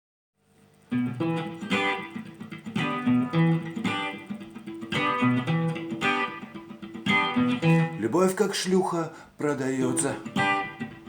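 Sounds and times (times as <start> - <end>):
guitar chords: 0.6 - 11.0.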